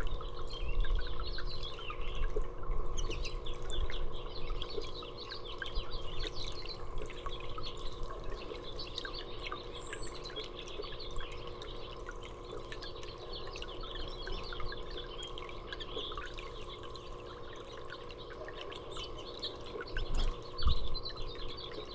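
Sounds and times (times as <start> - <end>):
songbirds chirping: 0.0 - 21.9
water dripping: 0.0 - 21.9.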